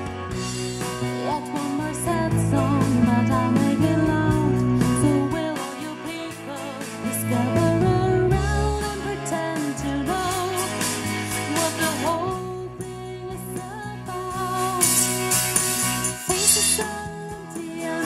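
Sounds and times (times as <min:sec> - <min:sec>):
song with singer and band: 0:00.0 - 0:18.0.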